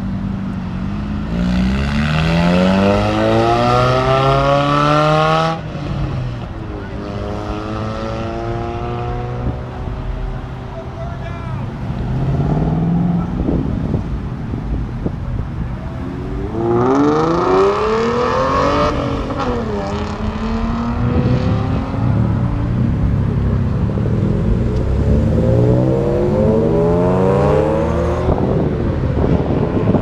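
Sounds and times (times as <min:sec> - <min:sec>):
car engines accelerating hard: 0:00.0 - 0:30.0.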